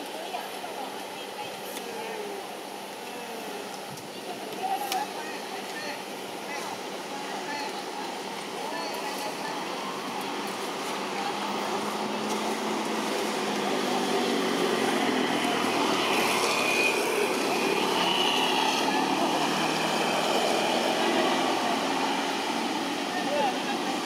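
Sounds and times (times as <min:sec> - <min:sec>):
indistinct outdoor murmur: 0:00.0 - 0:24.0.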